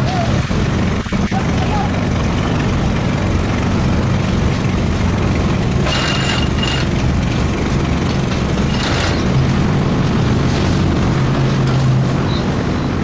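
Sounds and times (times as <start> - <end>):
heavy machine engine droning: 0.0 - 13.0.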